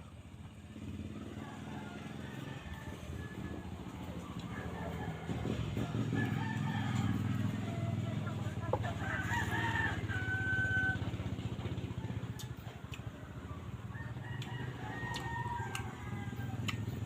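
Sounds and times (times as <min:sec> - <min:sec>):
rooster crowing: 0:00.8 - 0:17.0.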